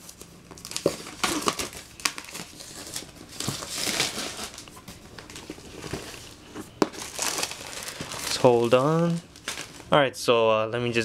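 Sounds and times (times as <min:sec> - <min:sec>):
plastic wrapping tearing and crinkling: 0:00.0 - 0:10.0.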